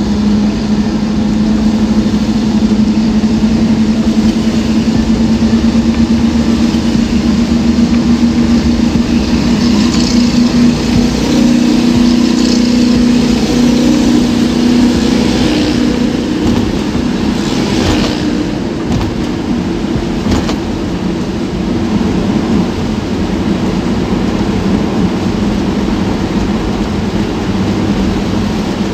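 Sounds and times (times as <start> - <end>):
road noise: 0.0 - 28.9
vehicle engine running: 0.0 - 28.9.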